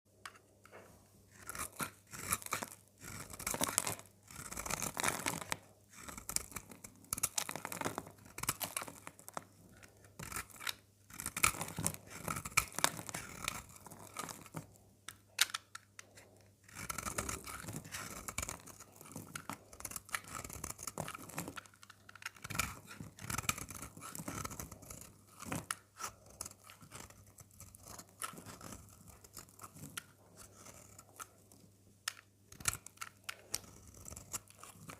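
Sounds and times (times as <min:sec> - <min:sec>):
blade cutting dry soap: 0:00.2 - 0:31.4, 0:32.1 - 0:34.9.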